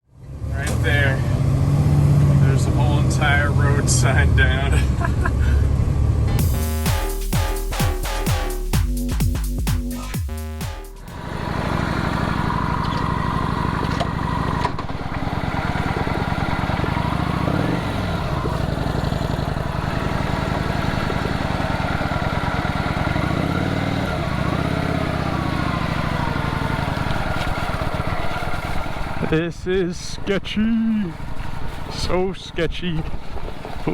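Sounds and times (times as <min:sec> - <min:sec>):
motorcycle engine revving: 0:00.1 - 0:32.2.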